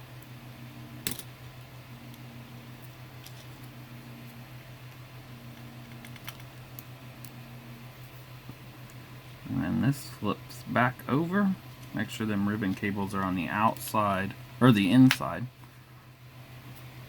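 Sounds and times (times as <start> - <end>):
second hum tone: 0.0 - 14.8
steady low hum: 0.0 - 17.0.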